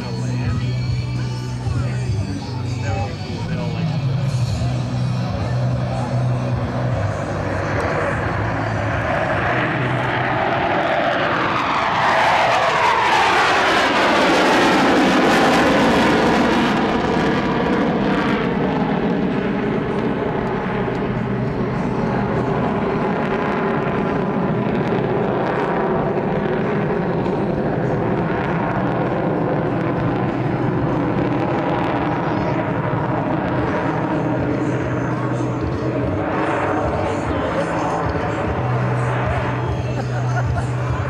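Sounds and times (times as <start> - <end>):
jet engine noise: 0.0 - 41.0.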